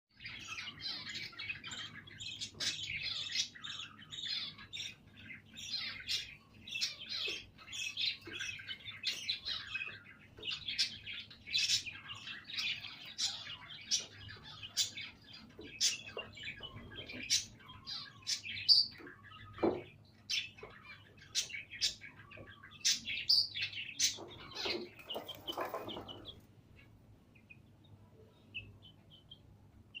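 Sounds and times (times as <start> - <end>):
chicks chirping and peeping: 0.1 - 30.0.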